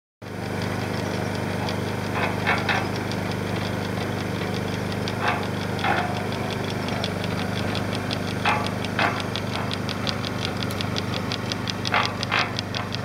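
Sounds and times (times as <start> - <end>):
concrete mixer motor hum: 0.2 - 13.0
rapid ticking of belt drive: 0.2 - 13.0.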